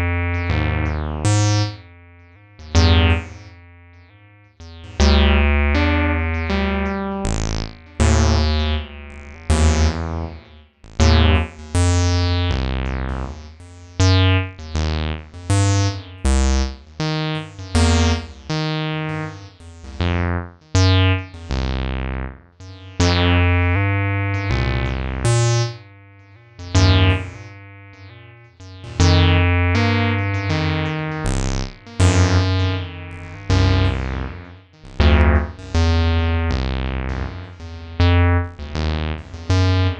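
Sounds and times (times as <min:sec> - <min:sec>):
deep bass notes: 0:00.0 - 0:22.4, 0:23.0 - 0:25.7, 0:26.6 - 0:28.2, 0:28.8 - 0:39.9
acid synth line: 0:00.0 - 0:39.9.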